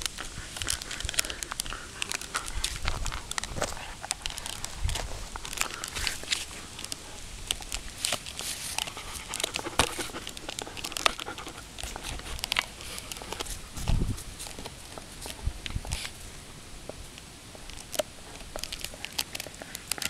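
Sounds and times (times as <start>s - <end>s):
dog gnawing a bone: 0.0s - 16.2s, 16.9s - 20.0s.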